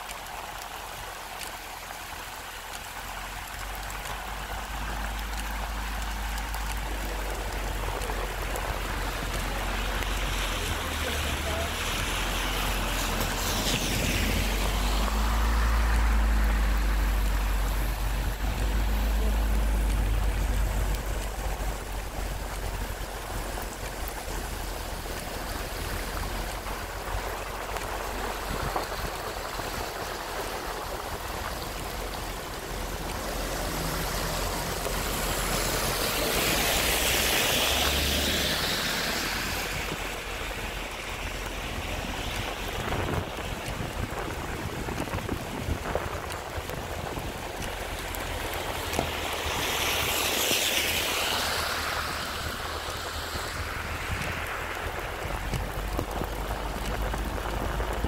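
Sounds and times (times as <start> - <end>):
tyres hissing on wet road: 0.0 - 58.0
vehicles swishing past: 0.1 - 58.0.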